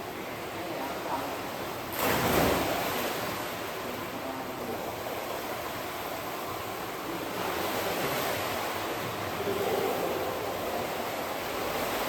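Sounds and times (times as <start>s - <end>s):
rushing water in pool: 0.0s - 12.0s.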